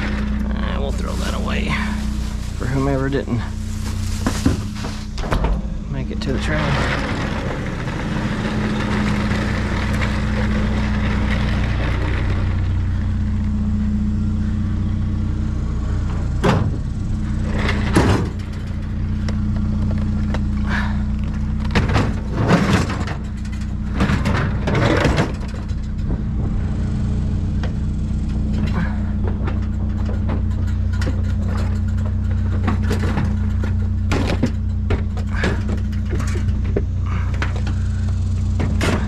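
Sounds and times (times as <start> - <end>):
clunks and rattles: 0.0 - 39.0
truck engine humming: 0.0 - 39.0.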